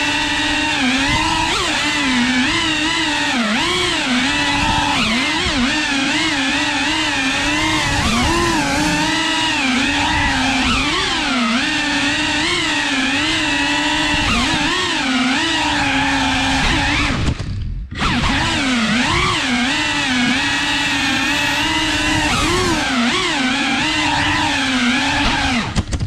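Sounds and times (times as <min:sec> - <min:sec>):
drone motors and propellers whining: 0:00.0 - 0:26.0.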